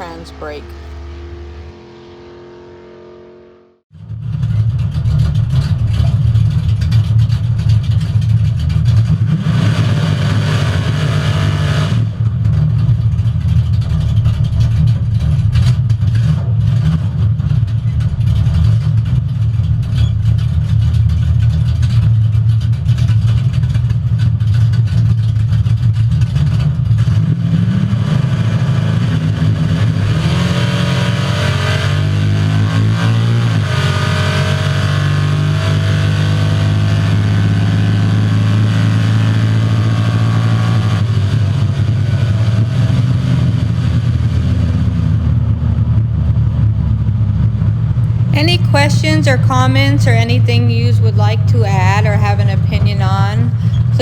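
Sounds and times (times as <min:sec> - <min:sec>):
loud car engine running: 0:00.0 - 0:54.0.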